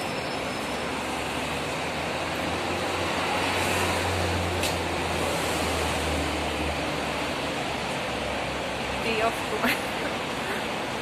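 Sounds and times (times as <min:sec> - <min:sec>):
hiss of passing vehicles: 0:00.0 - 0:11.0.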